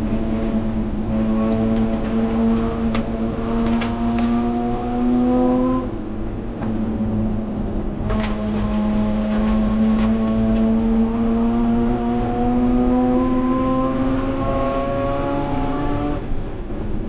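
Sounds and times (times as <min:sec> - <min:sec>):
race car engine at high revs: 0:00.0 - 0:16.8.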